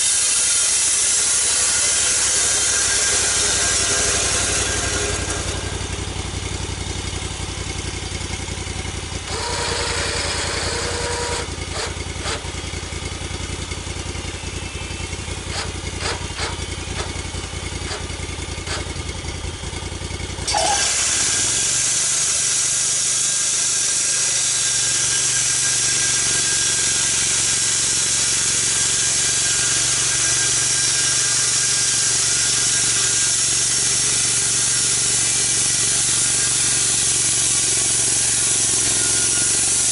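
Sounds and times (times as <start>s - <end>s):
saw cutting hiss: 0.0s - 12.6s, 14.1s - 19.0s, 20.4s - 39.9s
sawmill engine running: 0.0s - 39.9s.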